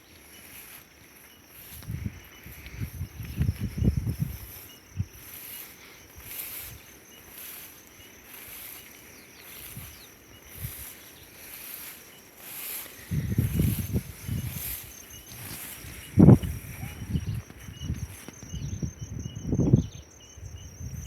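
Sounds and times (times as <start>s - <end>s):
insects buzzing: 0.0s - 21.0s
fast-pulsed insect trill: 0.3s - 21.0s.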